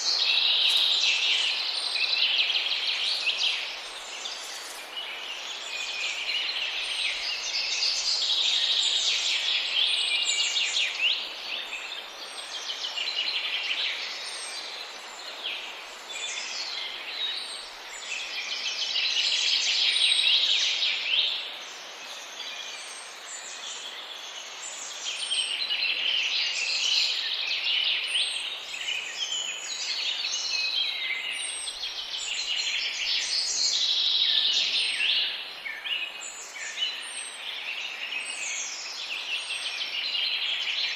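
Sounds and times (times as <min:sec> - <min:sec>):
flock of small birds chirping: 0:00.0 - 0:40.9
steady background hiss: 0:00.0 - 0:40.9.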